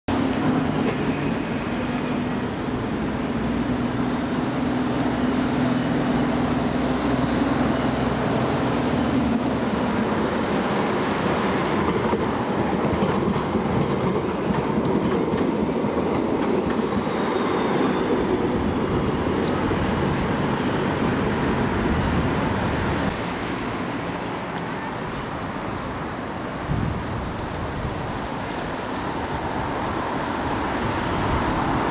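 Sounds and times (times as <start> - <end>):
city traffic: 0.1 - 31.9
tram rolling past: 0.1 - 31.9.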